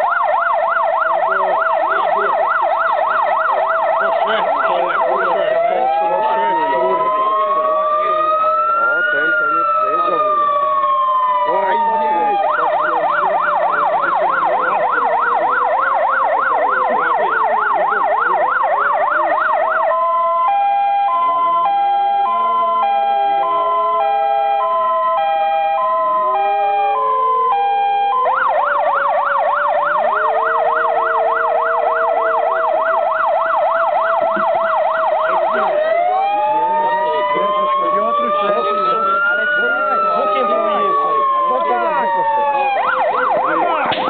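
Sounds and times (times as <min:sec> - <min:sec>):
electronic siren yelping: 0:00.0 - 0:44.0
rising siren wail: 0:00.0 - 0:44.0
steady siren tone: 0:00.0 - 0:44.0.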